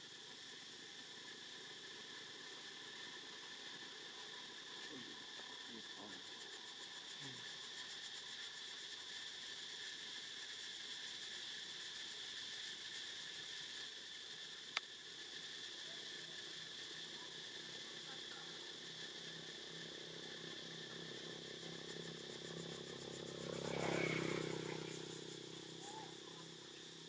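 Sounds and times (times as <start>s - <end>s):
insect chorus buzzing: 0.0s - 27.0s.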